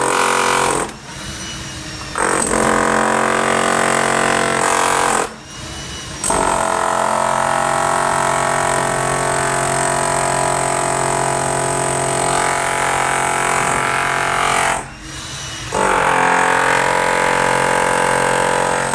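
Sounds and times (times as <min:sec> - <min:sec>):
loud droning tone: 0:00.0 - 0:18.9.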